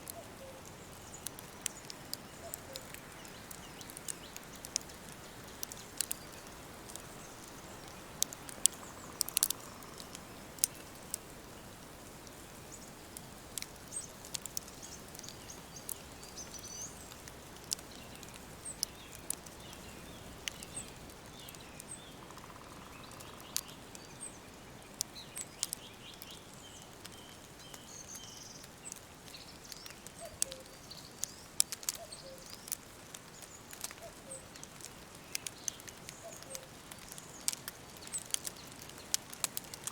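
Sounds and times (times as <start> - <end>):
low bird calls: 0.0 - 10.9, 13.9 - 32.7, 33.3 - 34.6, 35.2 - 38.9
birds chirping: 0.0 - 13.0, 13.7 - 34.6
sharp clicks and crackles: 0.0 - 39.9
steady soft hiss: 0.0 - 39.9.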